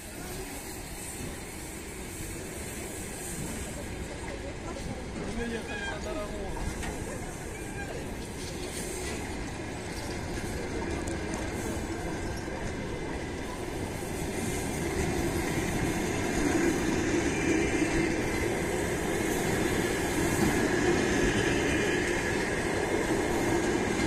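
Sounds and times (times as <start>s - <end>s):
train wheels running over rails: 0.0s - 24.0s.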